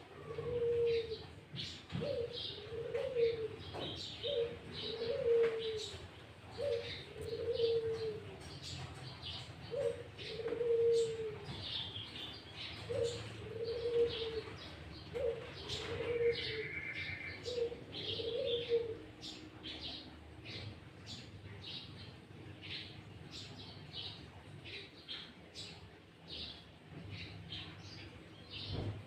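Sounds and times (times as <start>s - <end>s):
dove cooing: 0.0s - 25.7s
songbirds chirping: 0.0s - 29.0s.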